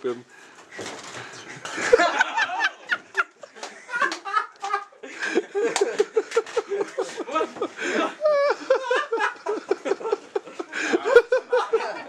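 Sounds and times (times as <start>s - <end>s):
people laughing hard: 1.0s - 12.0s
high wavering laugh: 1.6s - 12.0s.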